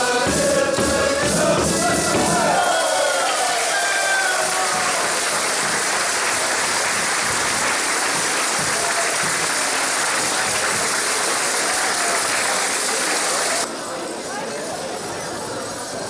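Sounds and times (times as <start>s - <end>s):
congregation applauding: 0.0s - 13.7s.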